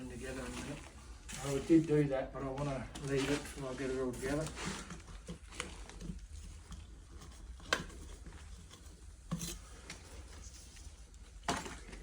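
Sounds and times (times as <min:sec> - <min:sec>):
handling noises: 0:00.0 - 0:12.0.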